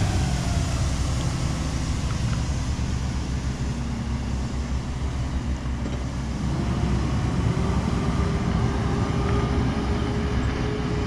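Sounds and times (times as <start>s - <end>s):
garbage truck diesel engine running: 0.0s - 11.0s.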